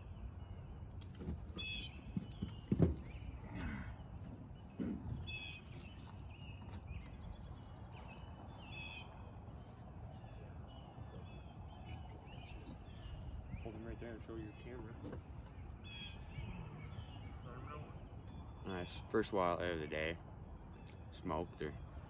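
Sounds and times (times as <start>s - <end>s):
bird calling: 1.5s - 22.0s.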